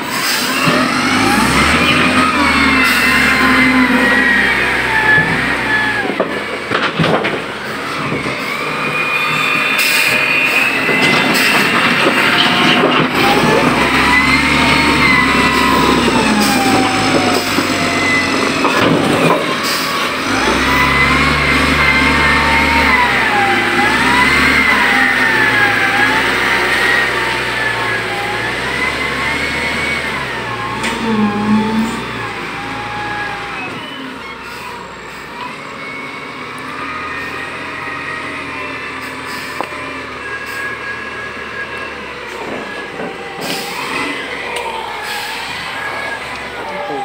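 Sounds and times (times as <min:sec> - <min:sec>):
loader diesel engine revving: 0:00.0 - 0:47.0.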